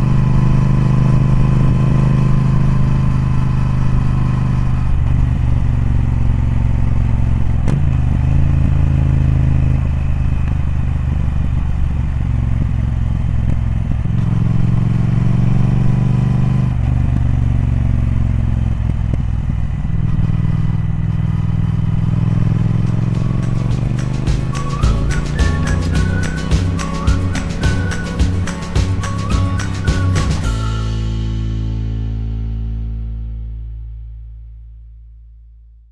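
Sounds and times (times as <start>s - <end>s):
motorcycle engine running: 0.0s - 33.1s.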